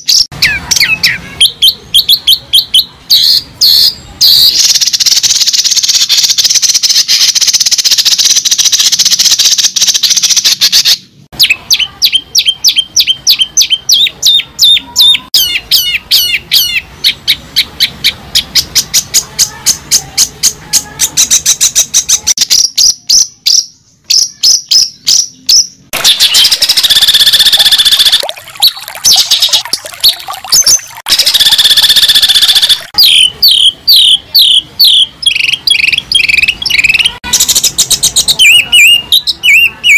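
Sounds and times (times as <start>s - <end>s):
songbird singing trills and chirps: 0.0s - 39.9s.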